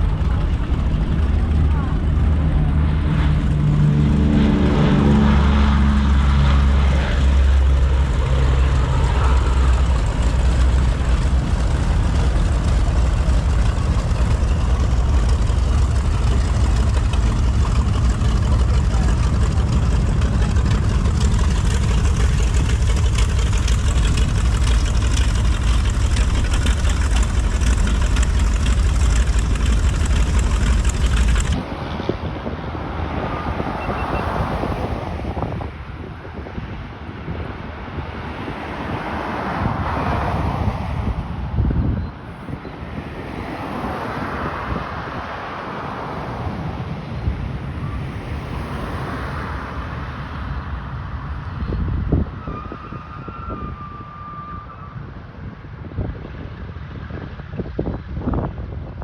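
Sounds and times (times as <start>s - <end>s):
radial aircraft engines droning: 0.0s - 59.0s
rushing wind-like noise: 0.0s - 59.0s.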